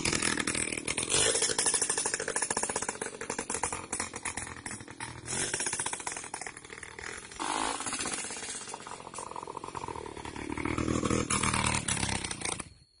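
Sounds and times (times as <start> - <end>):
two-stroke scooter engine: 0.0 - 13.0.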